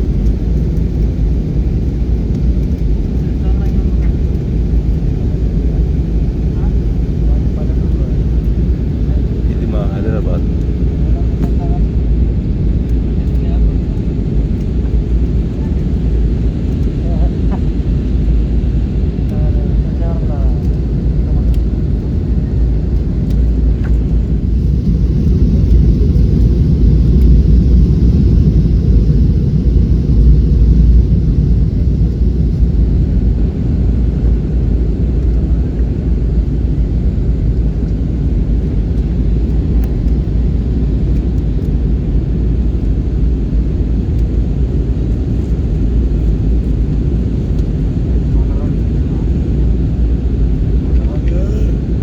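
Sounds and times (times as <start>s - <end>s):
jet engine and airflow roar: 0.0s - 52.0s.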